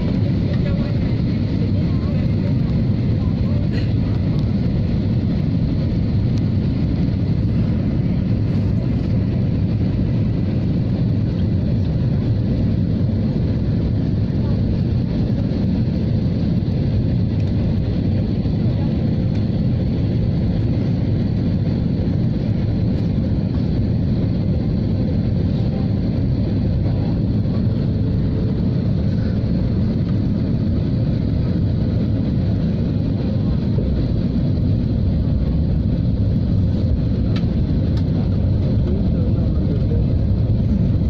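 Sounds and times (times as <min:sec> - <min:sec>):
airliner cabin engine roar: 0:00.0 - 0:41.0.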